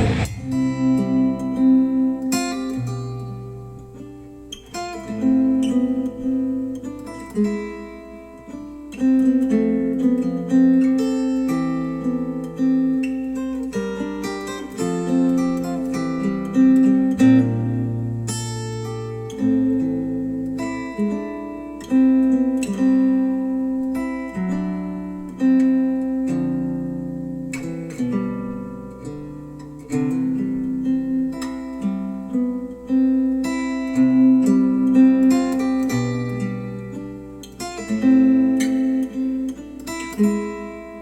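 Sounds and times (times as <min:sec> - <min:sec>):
acoustic guitar music over speakers: 0:00.0 - 0:41.0.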